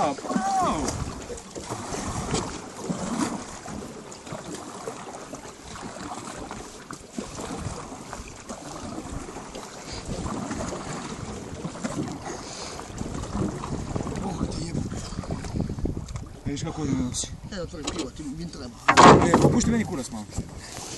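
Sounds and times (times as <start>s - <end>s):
wind buffeting microphone: 0.0s - 4.0s, 5.7s - 20.9s
paddles splashing in water: 0.0s - 17.1s, 17.8s - 20.9s.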